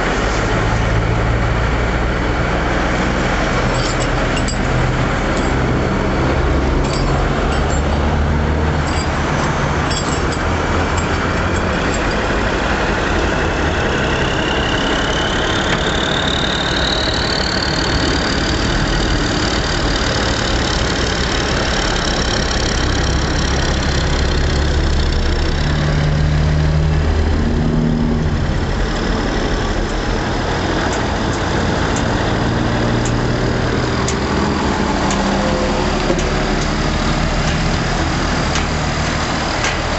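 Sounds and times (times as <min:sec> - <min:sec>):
diesel engines idling: 0:00.0 - 0:39.9
high whine: 0:00.0 - 0:39.9.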